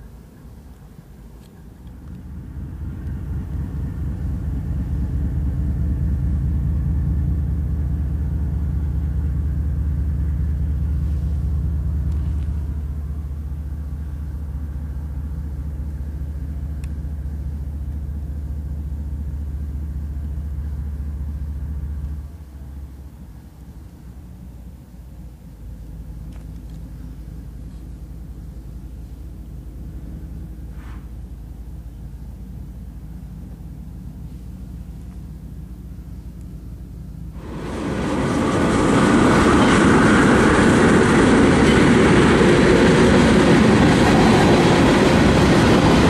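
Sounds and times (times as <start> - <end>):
diesel locomotive rumbling: 0.0 - 46.0.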